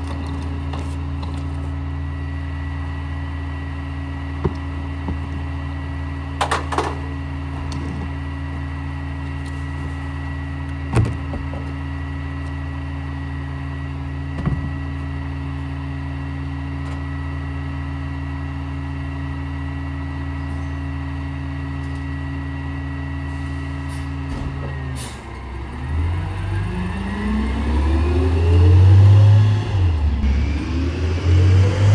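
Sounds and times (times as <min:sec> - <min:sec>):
garbage truck idling: 0:00.0 - 0:30.2.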